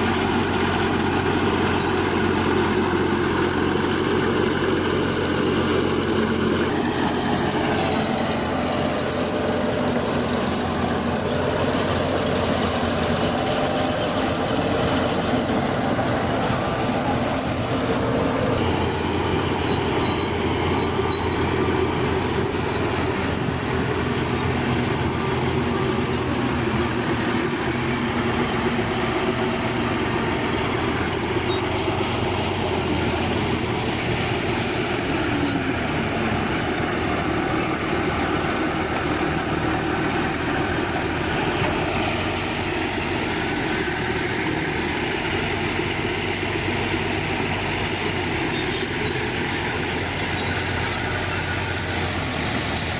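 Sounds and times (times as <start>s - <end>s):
bulldozer diesel engine running: 0.0s - 52.9s
steel tracks rattling: 0.0s - 52.9s.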